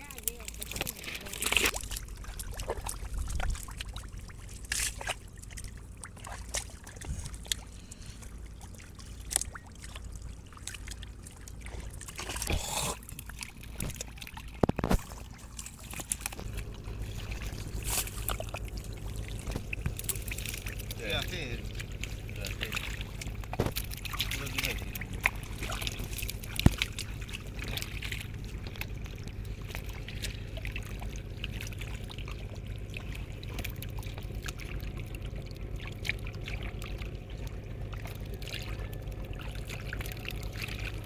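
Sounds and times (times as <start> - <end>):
low steady rumble: 0.0 - 41.0
shallow water splashing and trickling: 0.0 - 41.0
sharp splashes and knocks: 0.0 - 41.0.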